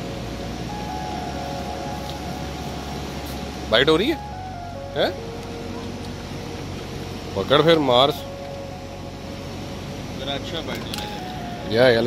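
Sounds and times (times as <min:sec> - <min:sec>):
bass line: 0:00.0 - 0:12.0
sustained synth notes: 0:00.0 - 0:12.0.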